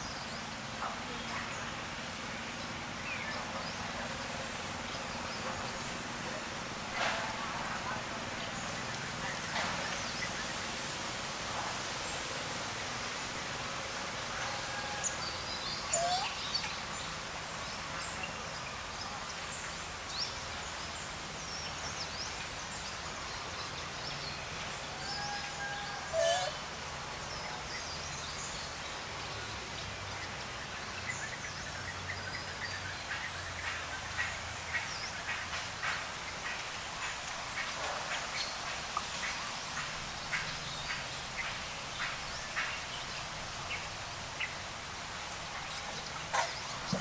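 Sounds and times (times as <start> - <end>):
steady background hiss: 0.0 - 47.0.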